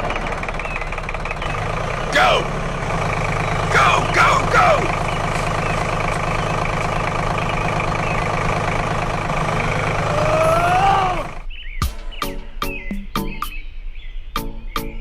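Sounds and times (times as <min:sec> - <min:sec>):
engine idling: 0:00.0 - 0:12.5.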